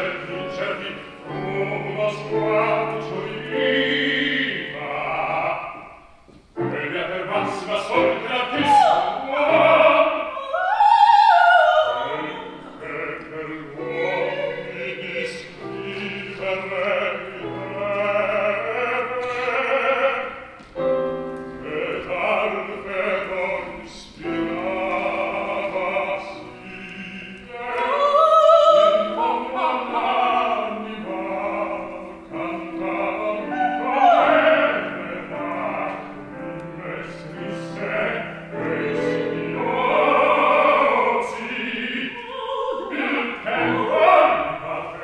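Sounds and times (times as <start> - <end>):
operatic soprano singing: 0.0 - 20.7, 21.6 - 45.0.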